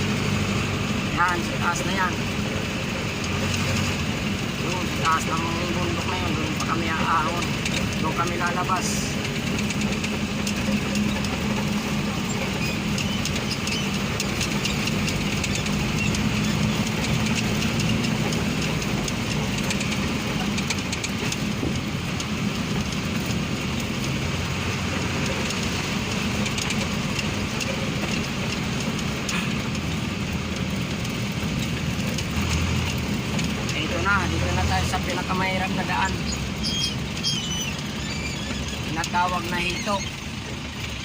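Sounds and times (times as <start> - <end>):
road noise: 0.0 - 41.0
truck engine running: 0.0 - 41.0
light rattles: 2.2 - 41.0.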